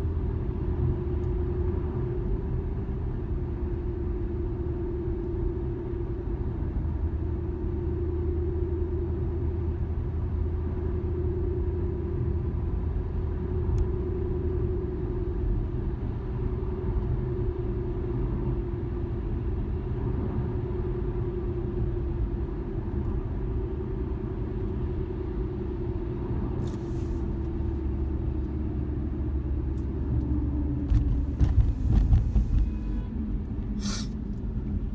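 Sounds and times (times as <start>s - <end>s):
road rumble: 0.0s - 34.9s.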